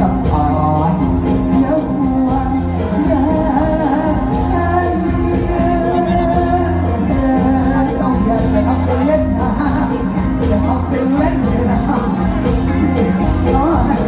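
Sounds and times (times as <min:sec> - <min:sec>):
drum and bass beat: 0:00.0 - 0:14.0
live band music: 0:00.0 - 0:14.0
person singing: 0:00.0 - 0:14.0.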